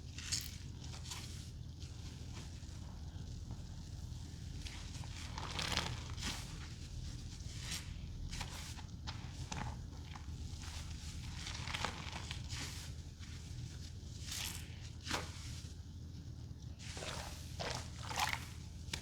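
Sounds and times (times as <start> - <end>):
wet sponges squelching: 0.1 - 19.0.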